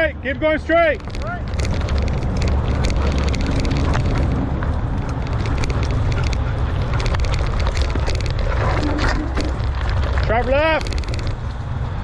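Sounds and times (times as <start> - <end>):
tyre and wind rumble: 0.0 - 12.0
bike clicks and rattles: 0.8 - 12.0.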